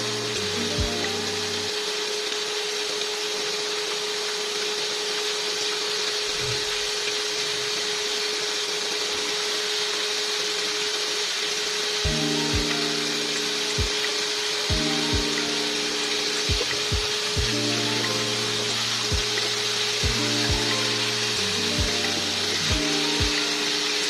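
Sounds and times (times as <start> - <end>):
chicken frying in hot oil: 0.0 - 24.0
faint steady hum: 0.0 - 24.0.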